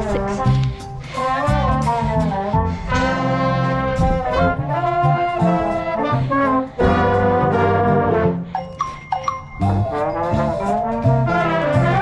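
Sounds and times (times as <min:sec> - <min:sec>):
low brass: 0:00.0 - 0:08.8, 0:09.6 - 0:12.0
trumpets and trombones: 0:00.0 - 0:09.0, 0:09.6 - 0:12.0.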